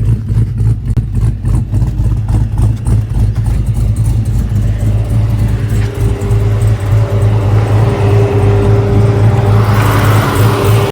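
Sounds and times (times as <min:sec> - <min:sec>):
car engine running steadily: 0:00.0 - 0:10.9.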